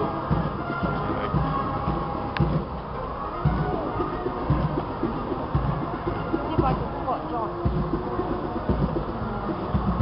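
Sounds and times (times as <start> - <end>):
bass drum beating: 0.0 - 10.0
military band playing a march: 0.0 - 10.0.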